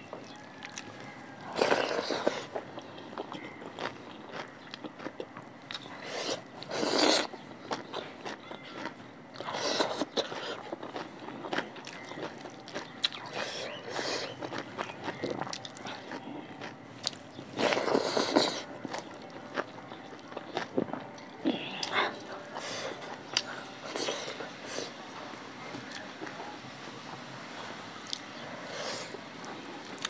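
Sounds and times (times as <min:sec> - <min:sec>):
person chewing: 0:00.2 - 0:26.4, 0:27.7 - 0:30.0.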